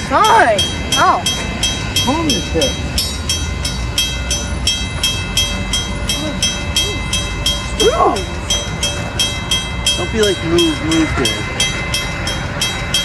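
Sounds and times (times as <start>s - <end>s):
low rumble of train: 0.0s - 13.0s
railroad crossing bell ringing: 0.0s - 13.0s.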